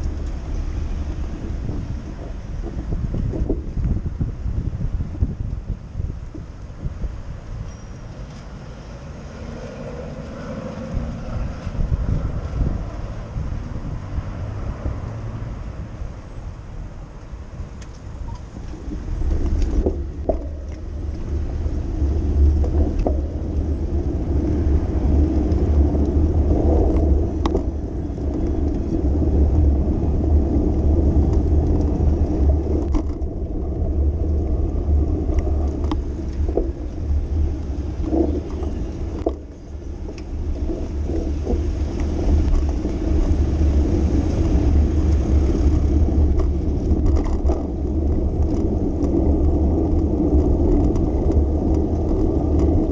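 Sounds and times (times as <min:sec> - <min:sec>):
wind and road noise: 0:00.0 - 0:52.9.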